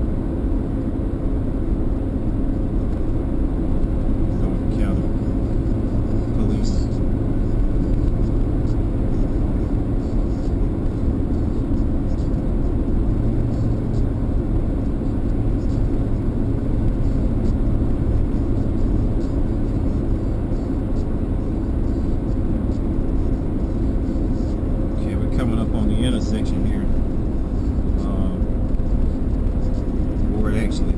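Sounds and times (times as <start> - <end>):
car road and engine noise: 0.0 - 30.9.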